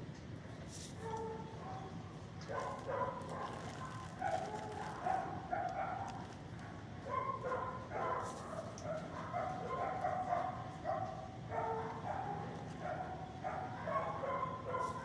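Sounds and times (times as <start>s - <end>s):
dog barking: 1.0s - 6.4s, 7.0s - 15.0s.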